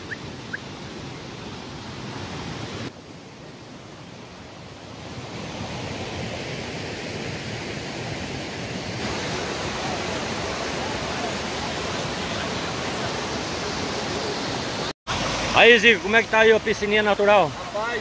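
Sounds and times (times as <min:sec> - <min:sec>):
water rushing over stones: 0:00.0 - 0:18.0.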